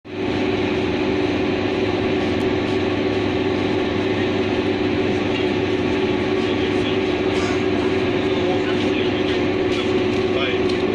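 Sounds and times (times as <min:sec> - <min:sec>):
low hum: 0:00.1 - 0:10.9
train rumbling and hissing: 0:00.1 - 0:10.9.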